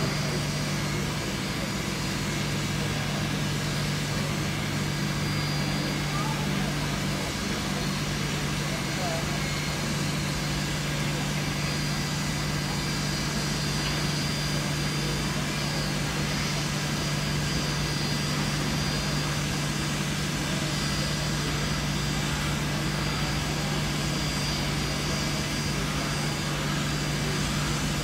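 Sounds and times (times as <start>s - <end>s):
diesel locomotive idling: 0.0s - 28.0s.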